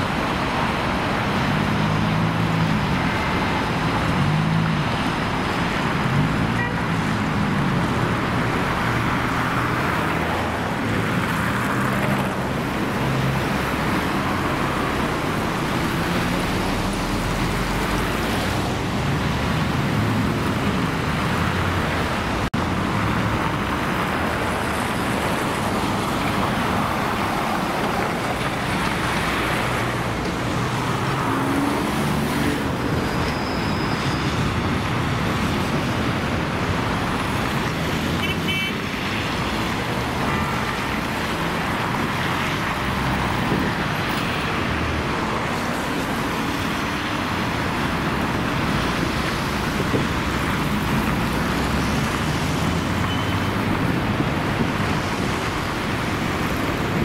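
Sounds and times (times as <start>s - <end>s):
car and tram traffic: 0.0s - 57.0s.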